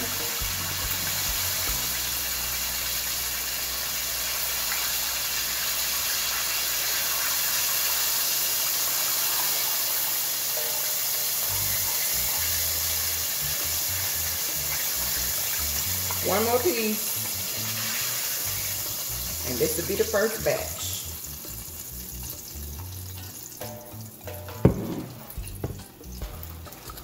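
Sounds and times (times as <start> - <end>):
chicken sizzling in grease: 0.0 - 27.0.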